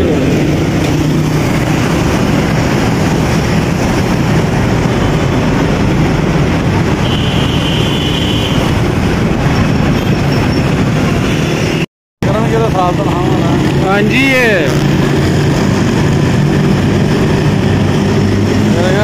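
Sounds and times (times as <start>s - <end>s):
wind rush on microphone: 0.0s - 11.8s, 14.7s - 19.0s
motorcycle road noise: 0.0s - 19.0s.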